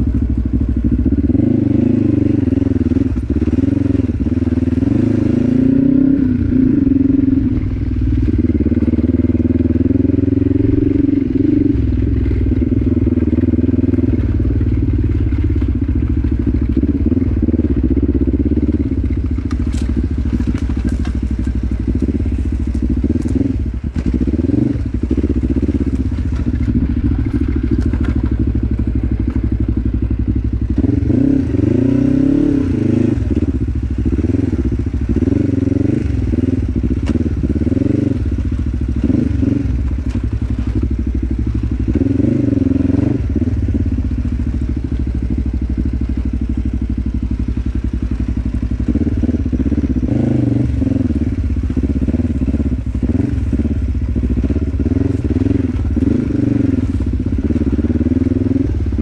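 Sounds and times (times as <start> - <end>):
engine knocks and clatter: 0.0 - 59.0
motorcycle engine revving: 0.0 - 59.0.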